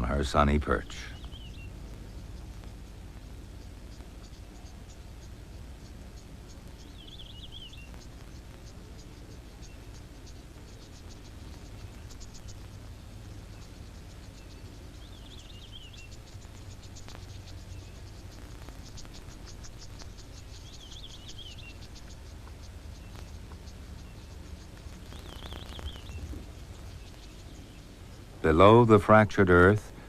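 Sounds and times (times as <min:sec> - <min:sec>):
insects chirping: 0:00.0 - 0:30.0
low steady rumble: 0:00.0 - 0:30.0.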